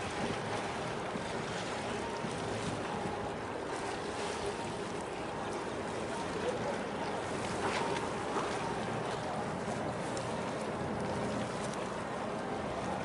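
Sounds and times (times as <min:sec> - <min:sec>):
choppy water: 0:00.0 - 0:13.0
wind: 0:00.0 - 0:13.0.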